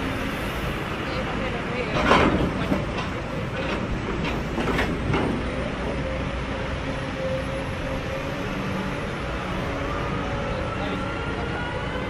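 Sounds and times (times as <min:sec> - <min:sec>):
diesel hydraulic machine drone: 0:00.0 - 0:12.0.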